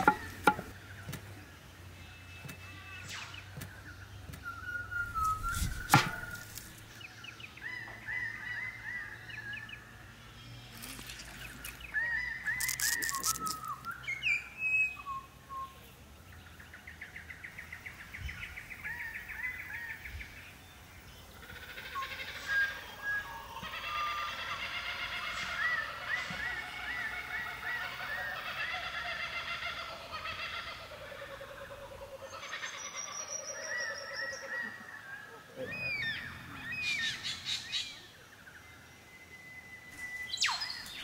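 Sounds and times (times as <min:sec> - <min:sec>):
birds calling with trills: 0:00.0 - 0:41.0.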